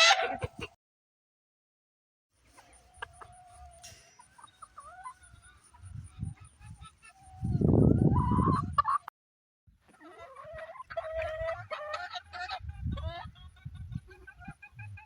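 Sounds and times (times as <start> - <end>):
roosters crowing and clucking: 0.0 - 0.8, 2.4 - 9.1, 9.8 - 15.0.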